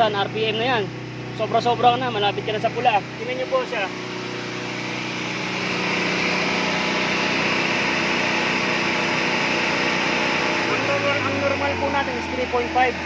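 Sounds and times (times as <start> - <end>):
car engine revving high: 0.0 - 13.0.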